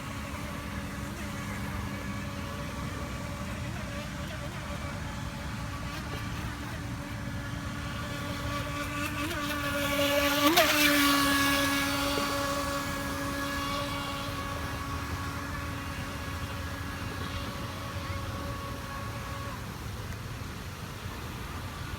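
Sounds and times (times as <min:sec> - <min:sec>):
speedboat motor whine: 0:00.0 - 0:21.9.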